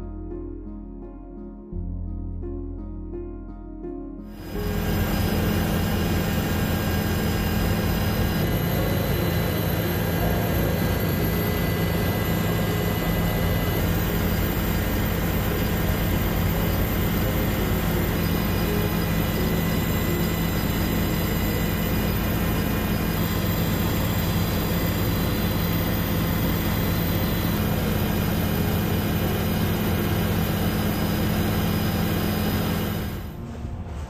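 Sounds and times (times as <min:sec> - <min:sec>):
aircraft cabin engine drone: 0:04.3 - 0:34.0.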